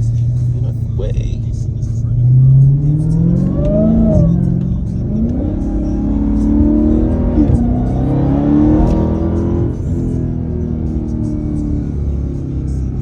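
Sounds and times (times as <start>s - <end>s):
car engine accelerating through gears: 0.0s - 13.0s.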